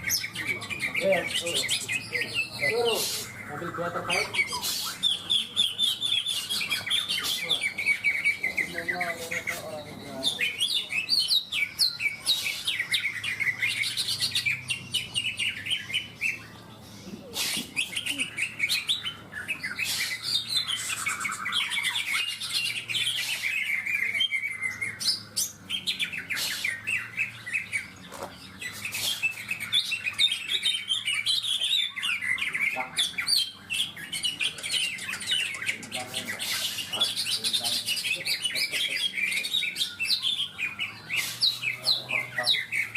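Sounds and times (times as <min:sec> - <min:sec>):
birds chirping and trilling: 0:00.0 - 0:42.9.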